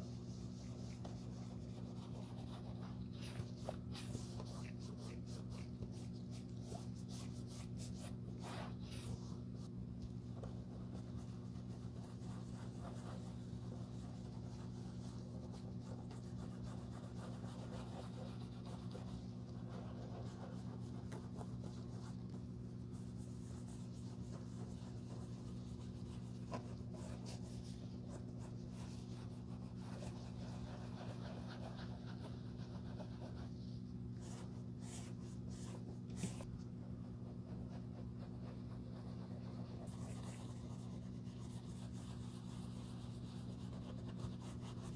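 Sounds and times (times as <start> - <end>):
brush rubbing leather shoe: 0.0 - 44.9
steady low hum: 0.0 - 44.9.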